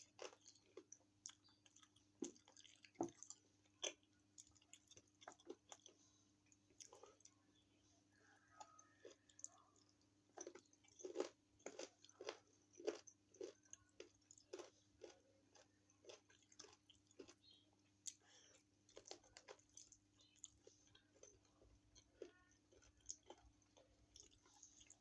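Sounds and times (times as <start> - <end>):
chewing crunchy food: 0.0 - 25.0.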